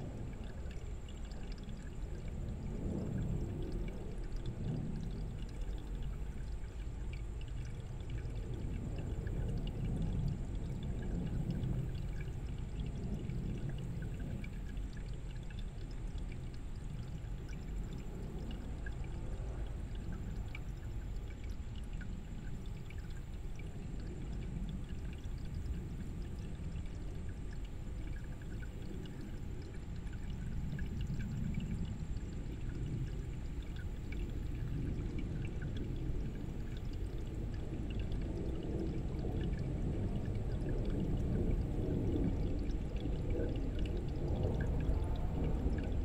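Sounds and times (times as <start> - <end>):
small water splashes: 0.0 - 46.0.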